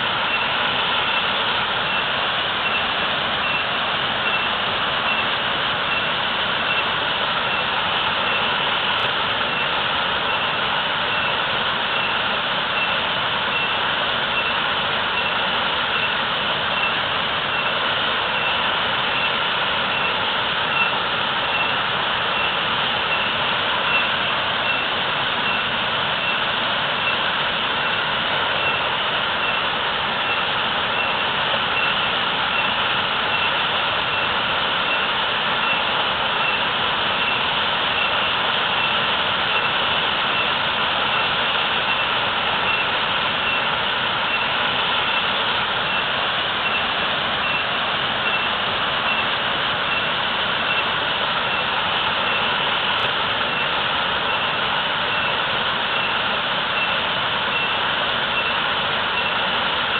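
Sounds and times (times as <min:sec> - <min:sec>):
waterfall roar: 0:00.0 - 0:59.9.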